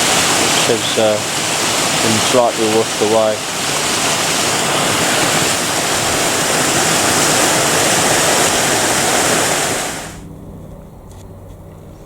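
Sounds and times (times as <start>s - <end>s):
water pouring over weir: 0.0s - 10.2s.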